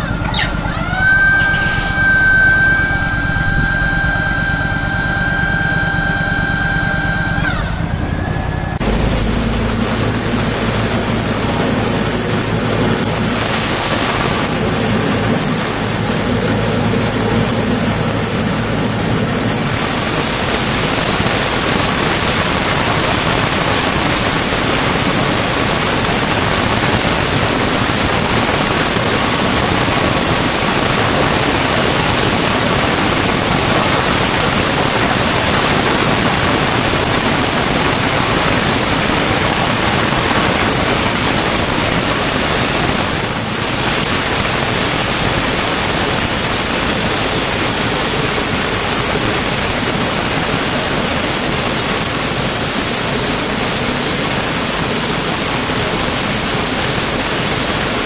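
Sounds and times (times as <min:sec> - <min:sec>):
engine hum with tones: 0:00.0 - 0:58.0
loud steady rushing noise: 0:00.0 - 0:58.0.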